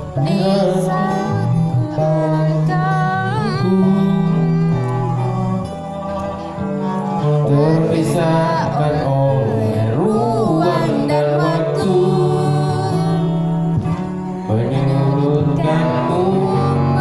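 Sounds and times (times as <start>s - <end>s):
guitar backing music: 0.0s - 17.0s
person singing a pop ballad: 0.0s - 17.0s.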